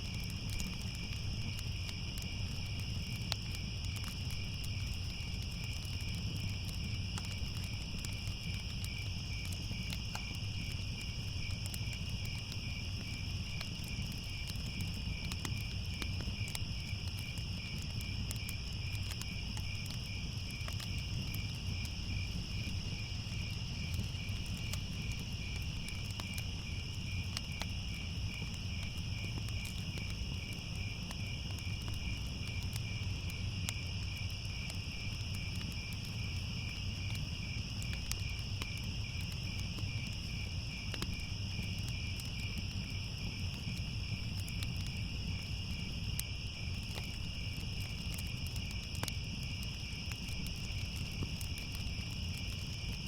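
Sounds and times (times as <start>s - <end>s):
crickets chirping: 0.0s - 53.0s
fire crackling: 0.0s - 53.0s.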